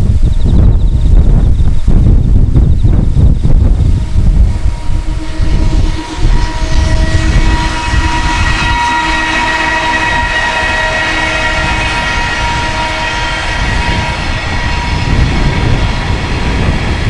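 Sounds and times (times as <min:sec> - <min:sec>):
freight train rumble: 0:00.0 - 0:17.0
high ringing whine: 0:00.0 - 0:17.0
wind buffeting microphone: 0:00.0 - 0:17.0.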